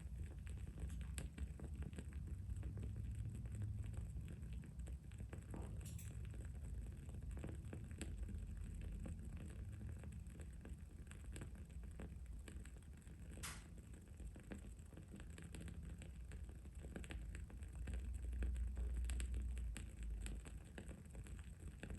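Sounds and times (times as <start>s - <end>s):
low background hum: 0.0s - 21.9s
candle crackling: 3.9s - 21.9s.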